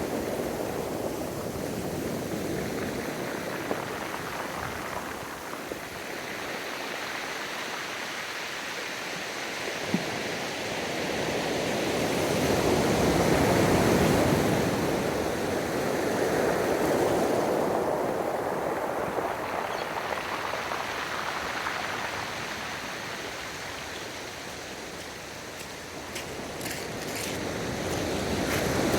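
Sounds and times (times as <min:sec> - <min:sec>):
waves washing up beach: 0:00.0 - 0:28.9.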